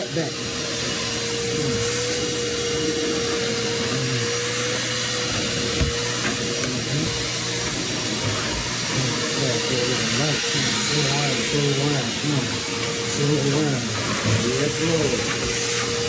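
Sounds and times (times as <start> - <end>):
shop vacuum running: 0.0 - 16.0.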